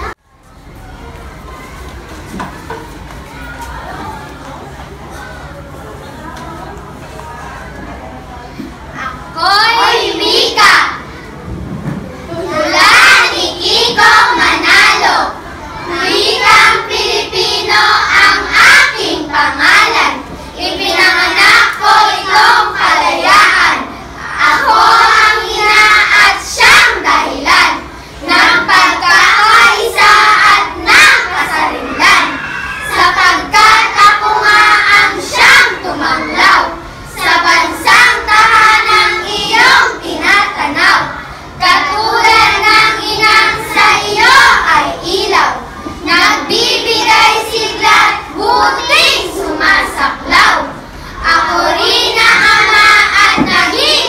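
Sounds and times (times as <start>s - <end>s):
children reciting in unison: 8.9s - 11.6s, 12.2s - 54.0s.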